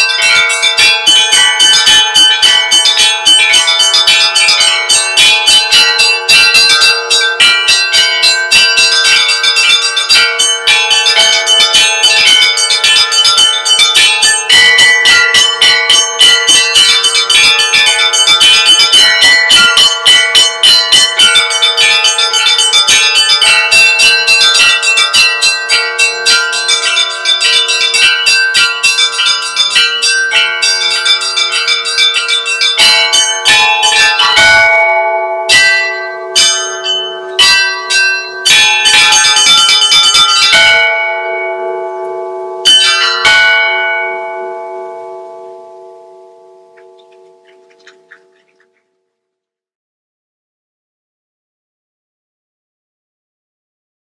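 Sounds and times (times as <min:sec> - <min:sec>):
deep bell humming: 0:00.0 - 0:48.7
small bells struck rapidly: 0:00.0 - 0:48.8.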